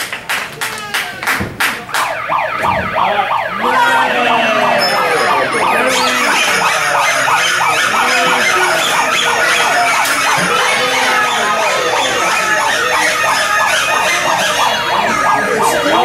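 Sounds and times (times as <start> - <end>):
siren-like wailing: 1.9 - 16.0.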